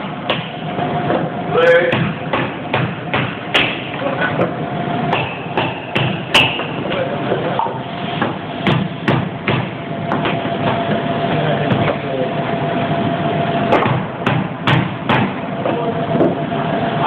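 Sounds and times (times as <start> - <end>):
workshop hum: 0.0 - 17.0.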